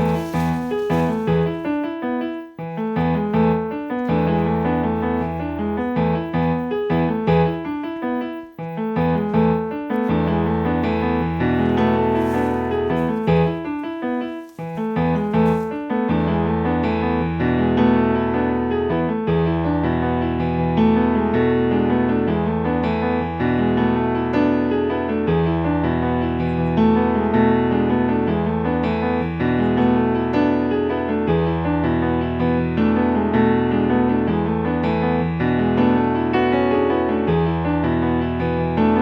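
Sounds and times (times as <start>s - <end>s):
piano background music: 0.0s - 39.0s.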